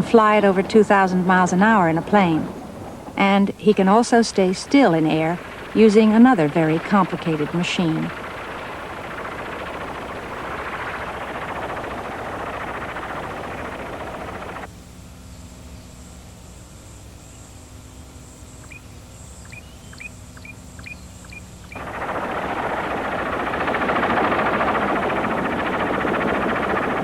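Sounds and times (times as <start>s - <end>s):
helicopter hovering: 0.0s - 14.7s, 18.5s - 27.0s.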